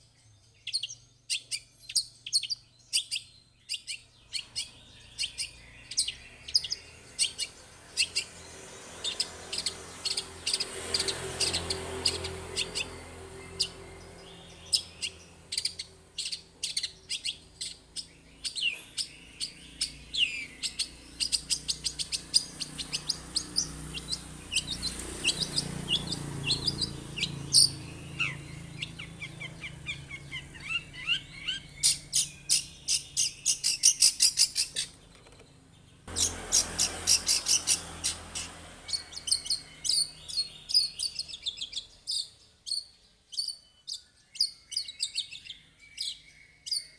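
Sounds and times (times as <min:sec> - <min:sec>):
bird singing chirps and whistles: 0:00.5 - 0:08.4, 0:09.0 - 0:34.9, 0:36.2 - 0:46.9.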